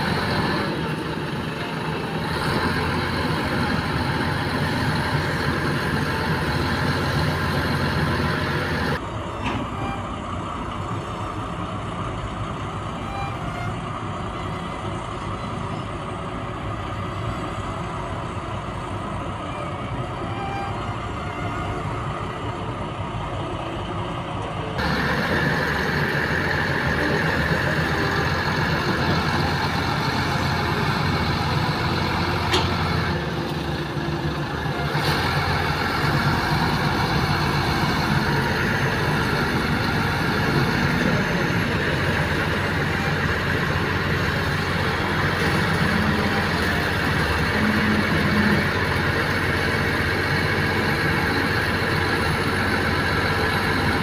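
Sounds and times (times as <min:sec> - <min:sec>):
heavy diesel engines droning: 0:00.0 - 0:54.0.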